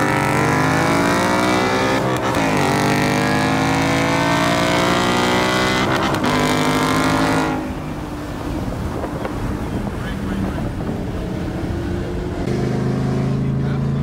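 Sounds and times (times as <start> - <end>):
car engine at full throttle: 0.0 - 14.0.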